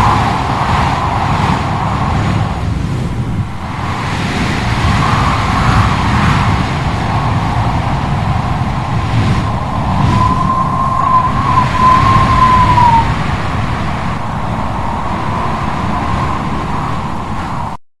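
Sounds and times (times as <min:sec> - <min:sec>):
wind blowing with hollow whistle: 0:00.0 - 0:17.8.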